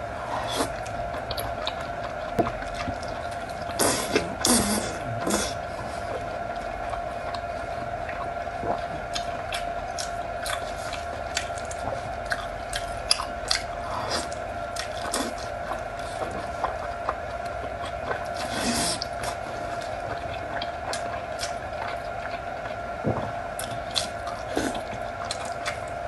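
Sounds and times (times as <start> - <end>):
steady hum: 0.0 - 26.0
chewing with wet mouth clicks: 0.6 - 5.4, 6.2 - 26.0.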